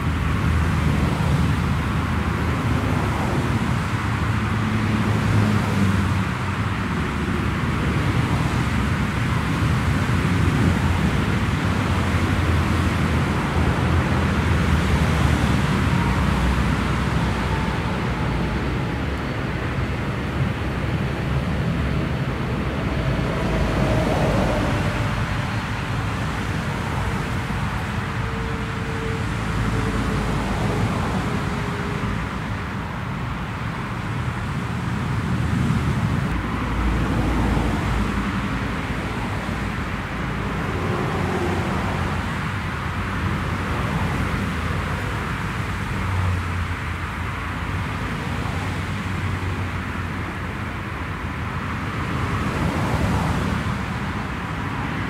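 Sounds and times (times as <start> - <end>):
engine whine: 0.0 - 55.0
turboprop engines roaring: 0.0 - 55.0.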